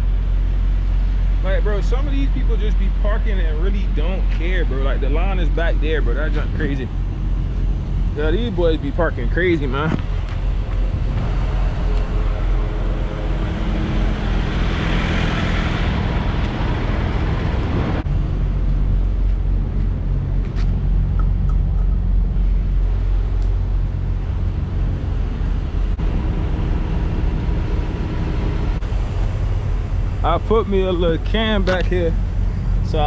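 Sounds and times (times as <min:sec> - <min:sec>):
truck diesel engine running: 0:00.0 - 0:33.0.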